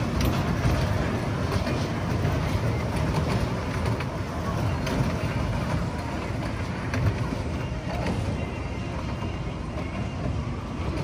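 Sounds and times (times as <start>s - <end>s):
ride train rolling on rails: 0.0s - 11.0s.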